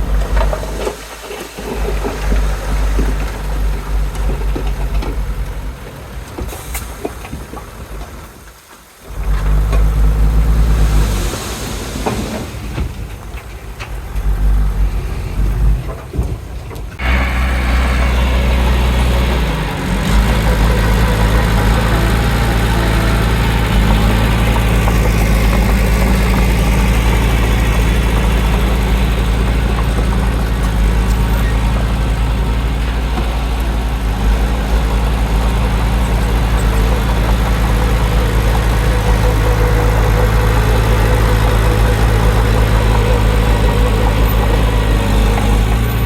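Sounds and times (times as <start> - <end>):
heavy diesel engines under load: 0.0 - 46.0.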